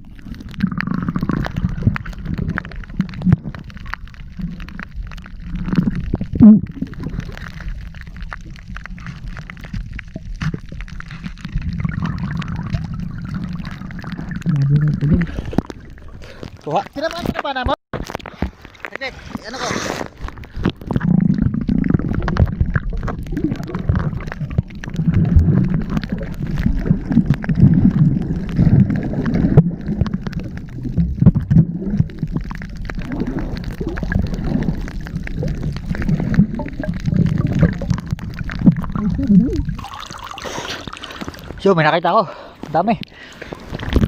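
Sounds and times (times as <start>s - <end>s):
muffled underwater water gurgling: 0.0s - 44.0s.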